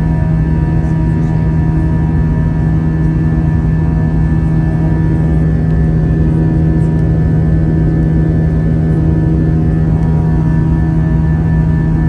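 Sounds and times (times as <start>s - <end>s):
jet engine drone inside cabin: 0.0s - 12.0s.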